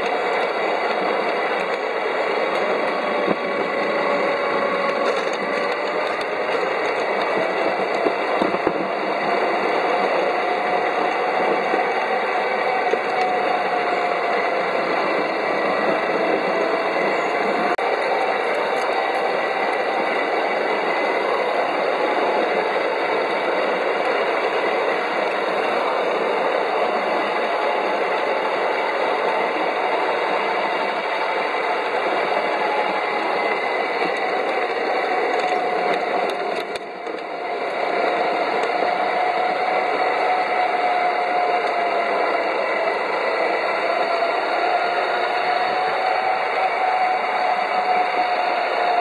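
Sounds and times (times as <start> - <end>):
faint locomotive whine: 0.0 - 49.0
wheels rattling on rails: 0.0 - 49.0.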